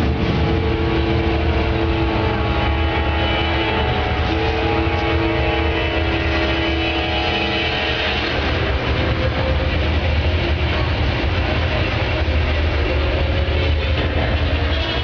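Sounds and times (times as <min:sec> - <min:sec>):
heavy machine engine drone: 0:00.0 - 0:15.0.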